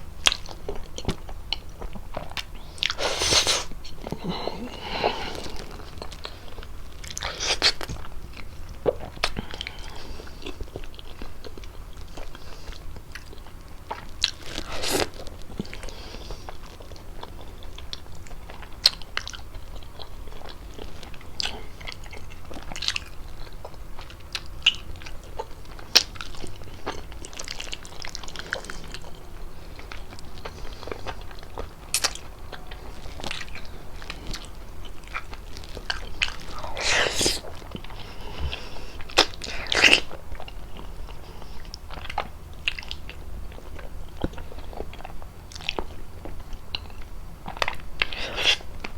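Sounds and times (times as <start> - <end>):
wet chewing and mouth smacks: 0.2 - 48.9.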